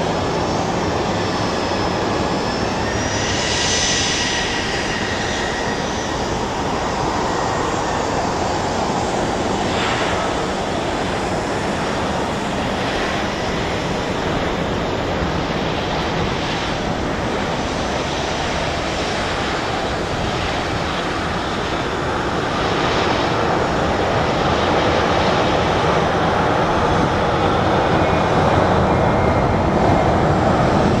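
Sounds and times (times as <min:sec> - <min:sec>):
jet engines rushing: 0:00.0 - 0:31.0.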